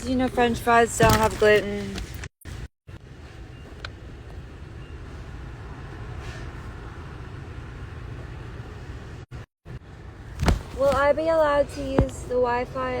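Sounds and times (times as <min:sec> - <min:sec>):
engine and road noise in cabin: 0:00.0 - 0:13.0.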